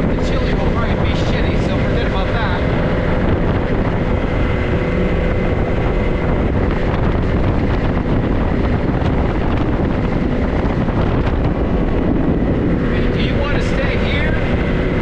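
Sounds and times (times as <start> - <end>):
vehicle engine and road noise: 0.0 - 15.0
wind noise on microphone: 0.0 - 15.0.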